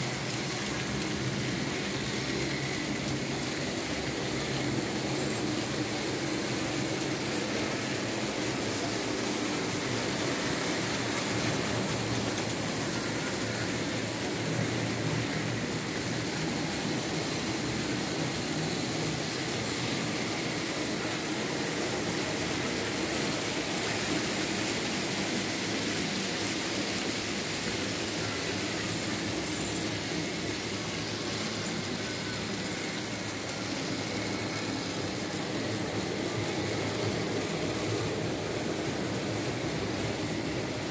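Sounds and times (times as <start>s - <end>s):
model train wheels rolling: 0.0s - 40.9s.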